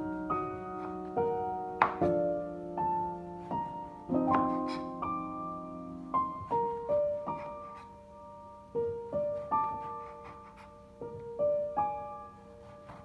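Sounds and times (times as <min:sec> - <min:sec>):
slow solo piano melody: 0:00.0 - 0:13.0.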